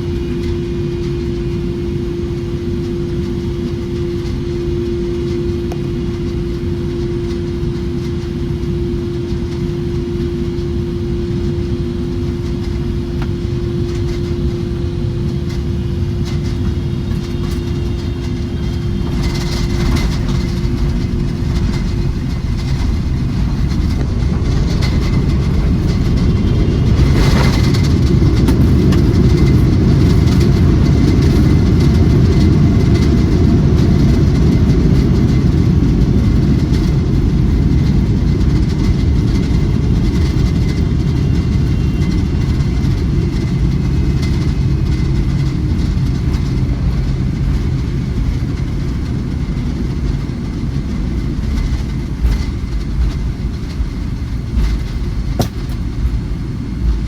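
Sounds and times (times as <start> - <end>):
mechanical hum: 0.0 - 57.0
vehicle cabin rumble: 0.0 - 57.0.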